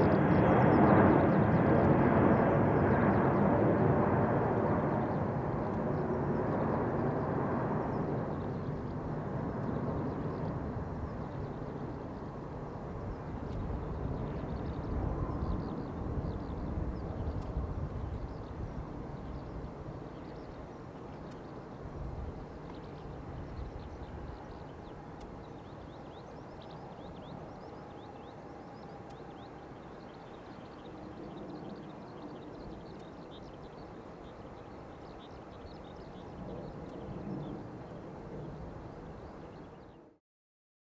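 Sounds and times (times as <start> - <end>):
distant jet engines rumbling: 0.0 - 40.1
small birds chirping: 4.9 - 37.7.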